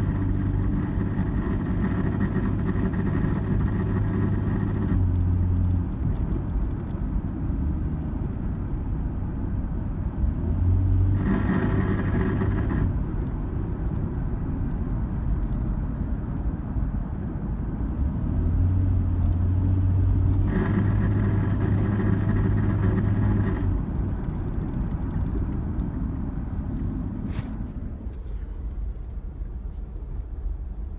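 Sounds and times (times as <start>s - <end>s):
engine and road rumble in cabin: 0.0s - 30.9s.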